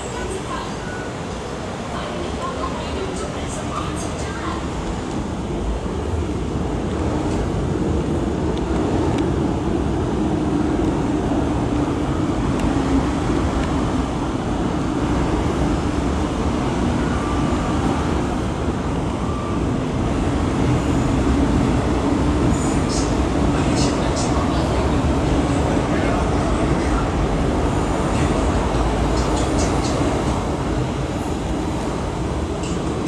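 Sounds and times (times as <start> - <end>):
subway train rumble: 0.0 - 33.0.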